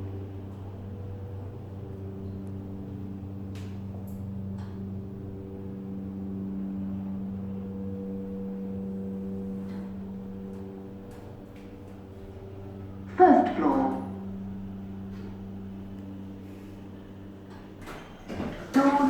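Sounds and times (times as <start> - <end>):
lift machine hum: 0.0 - 19.0.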